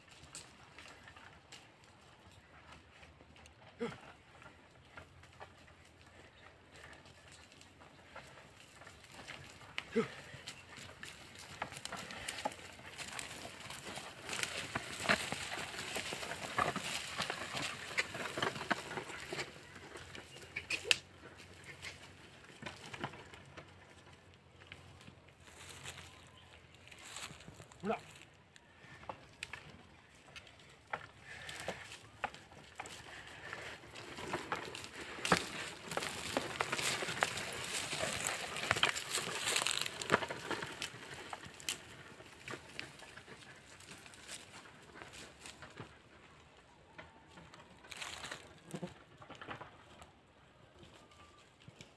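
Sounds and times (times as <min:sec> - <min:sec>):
ox hooves on soil: 0:00.0 - 0:51.9
wooden plough scraping soil: 0:00.1 - 0:46.8
footsteps on dry soil: 0:00.1 - 0:49.7.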